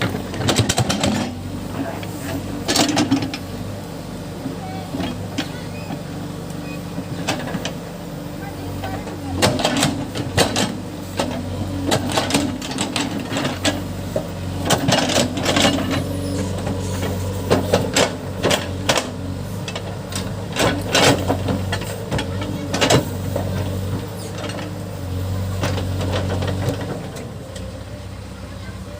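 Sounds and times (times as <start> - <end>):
diesel engine running: 0.0 - 28.9
digger knocking and clanking: 0.0 - 28.9.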